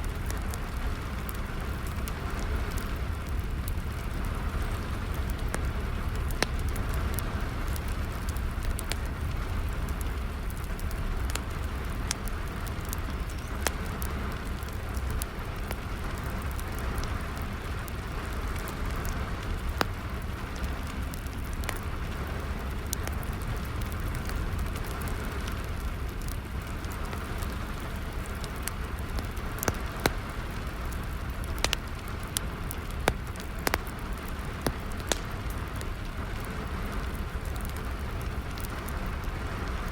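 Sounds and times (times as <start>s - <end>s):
fire crackling and popping: 0.0s - 39.9s
steady rain falling: 0.0s - 39.9s.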